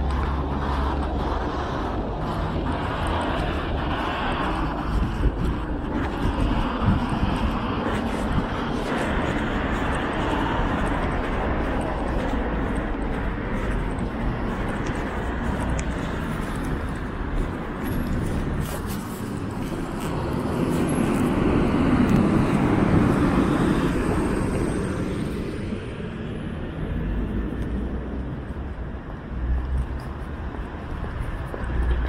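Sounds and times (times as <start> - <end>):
vehicle passing close: 0.0 - 25.9
city traffic hum: 0.0 - 32.0.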